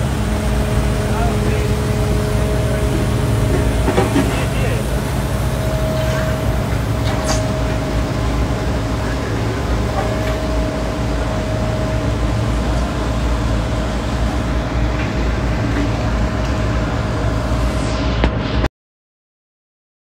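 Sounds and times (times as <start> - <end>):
excavator engine running: 0.0 - 18.5
steady hydraulic whine: 0.0 - 18.7.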